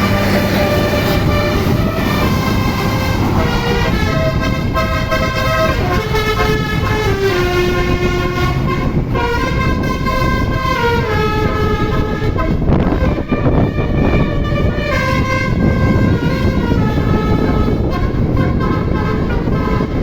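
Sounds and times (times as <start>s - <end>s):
bus engine rumble: 0.0s - 20.0s
multi-tone bus horn melody: 0.0s - 20.0s.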